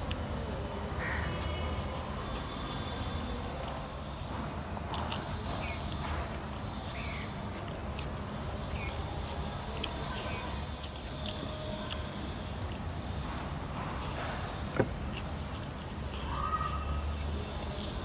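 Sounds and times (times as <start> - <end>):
chewing with lip smacks: 0.0 - 18.0.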